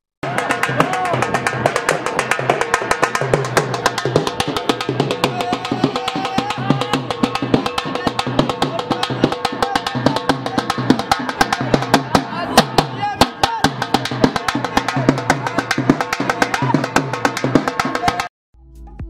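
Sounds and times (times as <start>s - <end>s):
music with fast drum beat: 0.2s - 18.3s.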